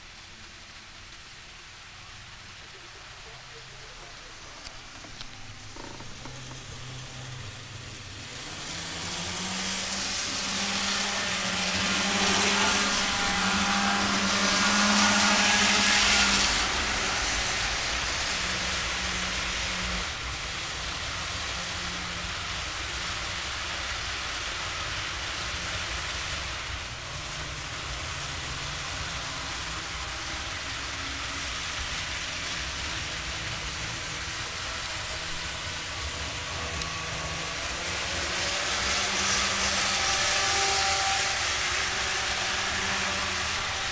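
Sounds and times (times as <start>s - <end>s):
model train motors humming: 0.0s - 43.9s
wheels rattling over track: 0.0s - 43.9s.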